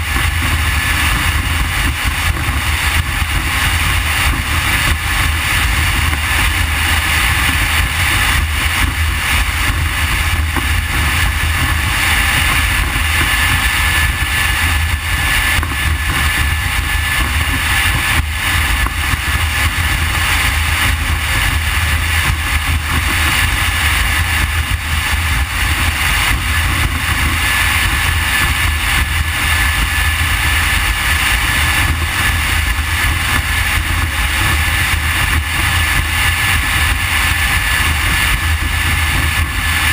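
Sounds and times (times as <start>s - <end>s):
outboard motors running: 0.0s - 39.9s
rush of wind and water: 0.0s - 39.9s.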